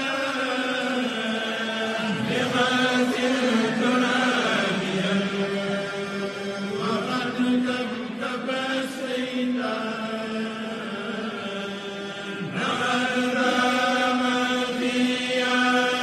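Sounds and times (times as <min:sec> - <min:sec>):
voices chanting long notes: 0:00.0 - 0:16.0.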